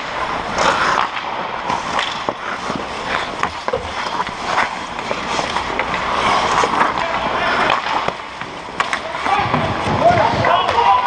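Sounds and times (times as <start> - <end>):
skates scraping ice: 0.0 - 11.0
sticks and puck clacking: 0.0 - 11.0.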